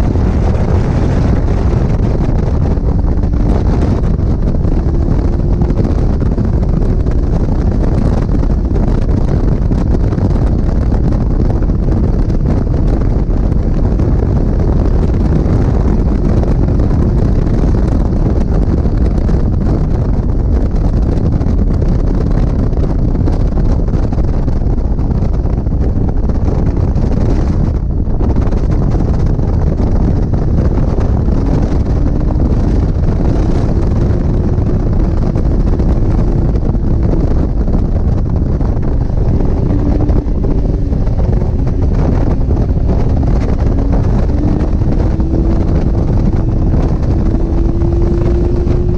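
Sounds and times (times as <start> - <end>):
car engine: 0.0 - 48.9
road noise: 0.0 - 48.9
wind buffeting microphone: 0.0 - 48.9.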